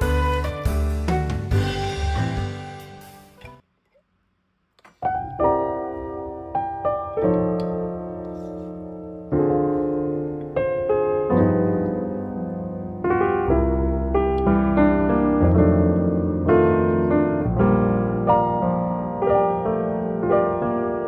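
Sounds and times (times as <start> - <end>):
piano music: 0.0 - 3.6, 5.1 - 21.0.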